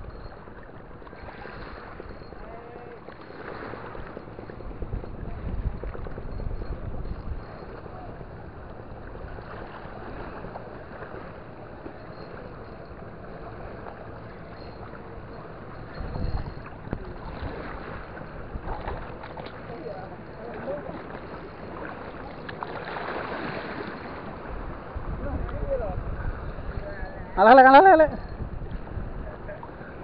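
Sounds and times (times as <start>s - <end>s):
lapping shallow water: 0.0s - 30.0s
wind buffeting microphone: 0.0s - 30.0s.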